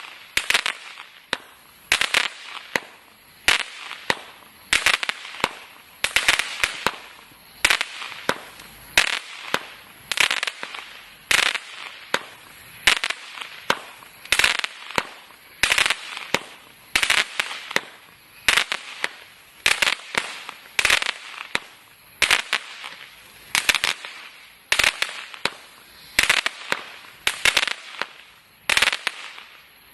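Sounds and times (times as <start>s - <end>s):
firework crackle: 0.0s - 29.9s
firework reports: 0.0s - 29.9s.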